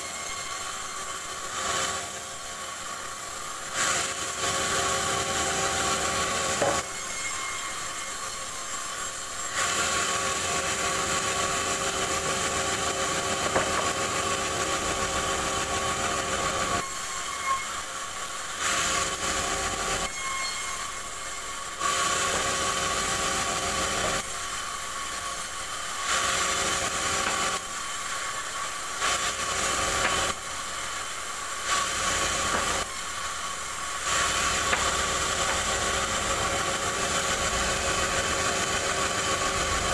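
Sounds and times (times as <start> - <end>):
bandsaw mill cutting log: 0.0 - 39.9.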